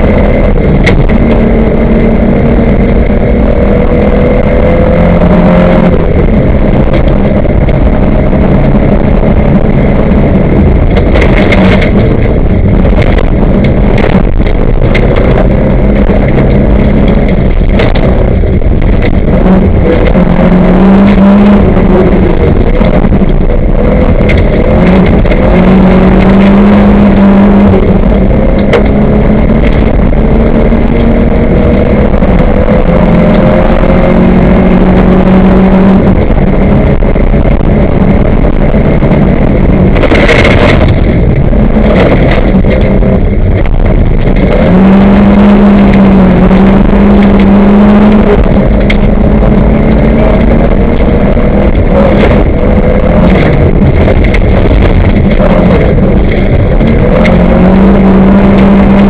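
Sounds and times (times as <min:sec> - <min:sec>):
rally car engine running hard: 0:00.0 - 0:59.0
tyres on gravel road: 0:00.0 - 0:59.0.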